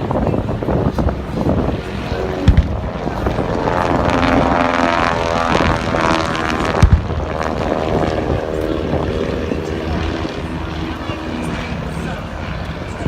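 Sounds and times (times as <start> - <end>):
propeller aircraft engine droning: 0.0 - 13.0.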